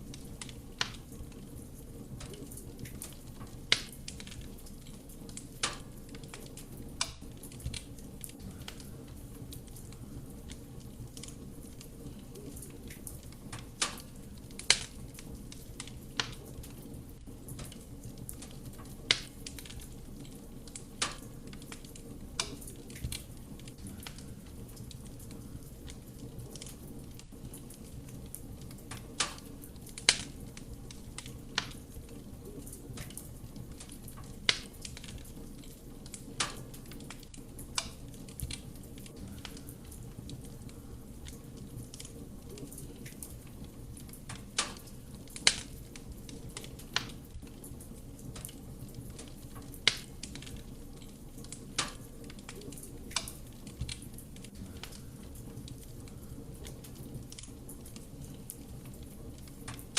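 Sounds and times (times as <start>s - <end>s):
fire rumbling: 0.0s - 59.9s
logs crackling and popping: 0.0s - 59.9s.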